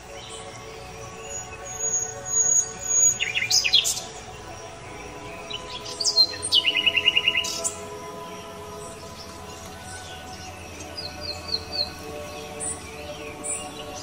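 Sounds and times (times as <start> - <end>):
birds chirping: 0.0 - 14.0
faint sustained tones: 0.0 - 14.0.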